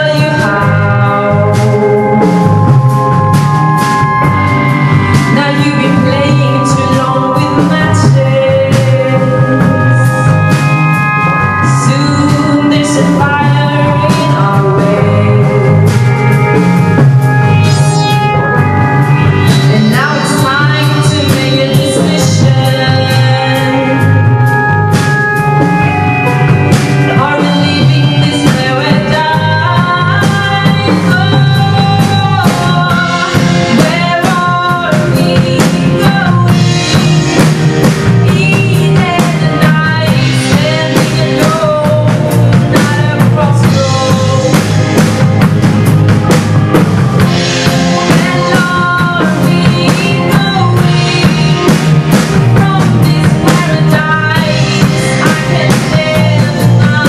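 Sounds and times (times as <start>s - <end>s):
woman singing: 0.0s - 25.3s, 27.0s - 45.6s, 47.2s - 57.0s
live band playing: 0.0s - 57.0s.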